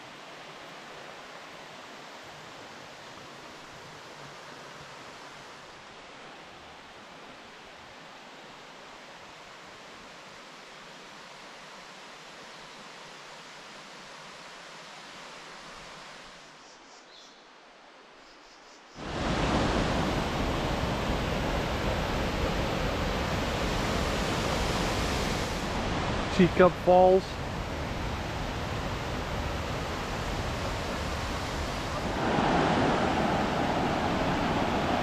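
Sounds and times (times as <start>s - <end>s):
creek water rushing: 0.0s - 16.5s, 19.0s - 35.0s.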